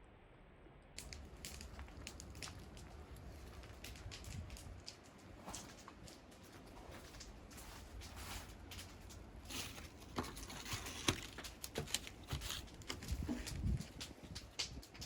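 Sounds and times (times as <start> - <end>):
debris knocking and rustling: 1.0 - 15.0
footsteps: 1.1 - 15.0.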